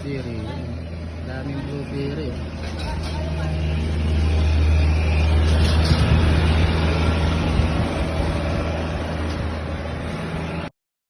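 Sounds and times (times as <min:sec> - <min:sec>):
road noise: 0:00.0 - 0:10.7
vehicle engine drone: 0:00.0 - 0:10.7.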